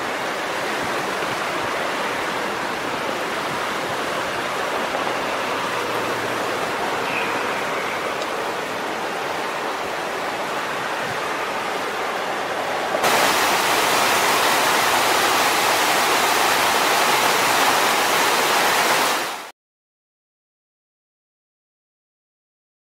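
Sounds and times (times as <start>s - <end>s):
creek water rushing over rapids: 0.0s - 19.5s.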